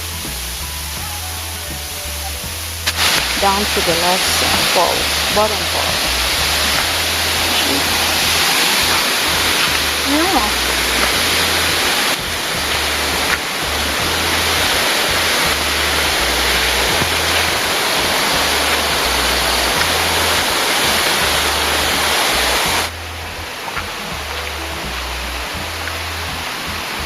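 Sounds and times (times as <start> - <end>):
background music: 0.0 - 27.0
waterfall rushing: 0.0 - 27.0.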